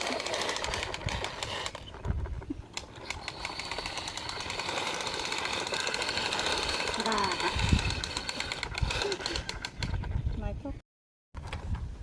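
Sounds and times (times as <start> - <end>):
toy car whirring and clicking: 0.0 - 10.2.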